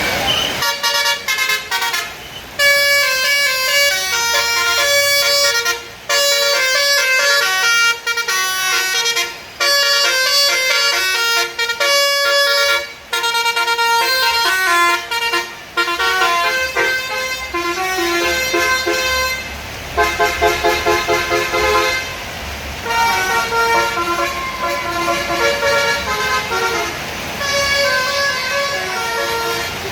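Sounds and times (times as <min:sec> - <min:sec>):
multi-tone bus horn melody: 0:00.5 - 0:29.9.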